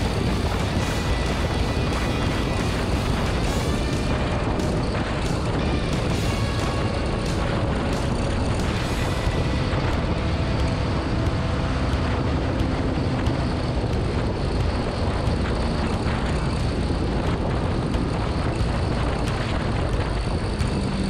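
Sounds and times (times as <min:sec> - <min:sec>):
motorcycle engine at speed: 0:00.0 - 0:21.0
wind rushing over microphone: 0:00.0 - 0:21.0.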